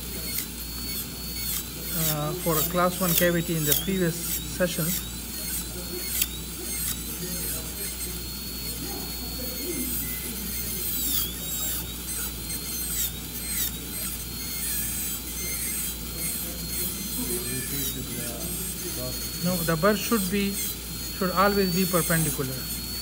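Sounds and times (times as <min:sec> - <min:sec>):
dental drill whining: 0:00.0 - 0:23.0.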